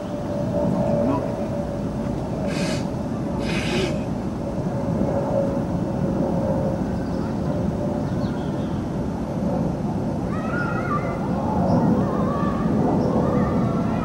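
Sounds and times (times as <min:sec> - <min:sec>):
constant hum: 0:00.0 - 0:14.0
low mechanical rumble: 0:00.0 - 0:14.0.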